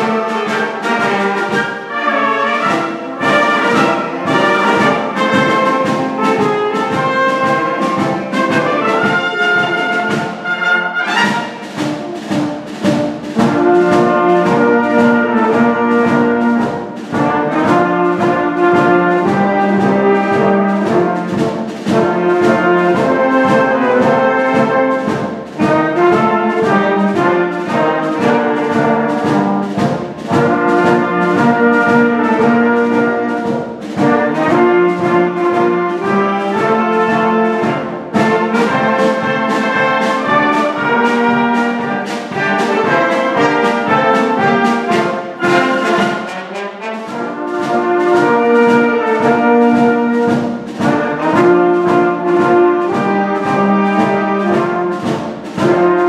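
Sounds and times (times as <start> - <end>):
steady drum beat: 0.0 - 56.0
wind band playing: 0.0 - 56.0.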